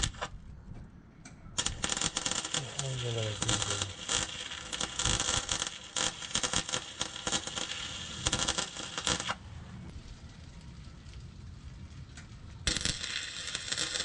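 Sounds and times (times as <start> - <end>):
welding arc crackling: 0.0 - 0.3, 1.6 - 14.0.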